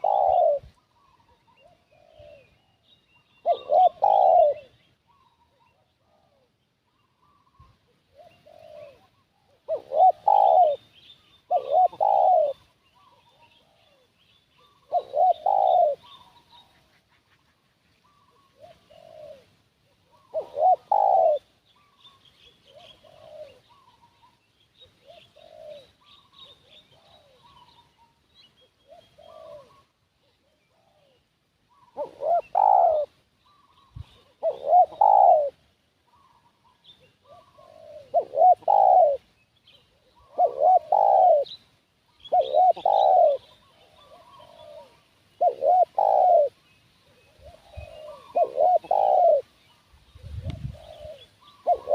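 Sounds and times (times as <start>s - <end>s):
doves cooing: 0.0s - 2.8s, 3.4s - 51.9s.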